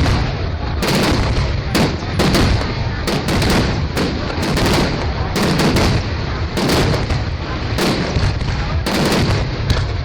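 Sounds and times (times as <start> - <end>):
fireworks bangs: 0.0 - 10.0
low rumble of fireworks bursts: 0.0 - 10.0.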